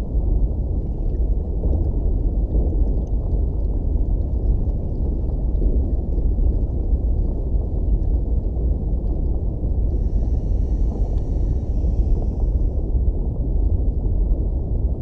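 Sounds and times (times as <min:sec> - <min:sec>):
low underwater rumble: 0:00.0 - 0:15.0.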